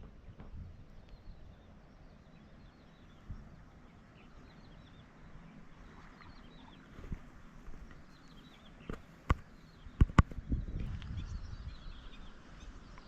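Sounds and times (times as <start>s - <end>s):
low wind rumble: 0.0s - 13.0s
small birds chirping: 0.0s - 13.0s.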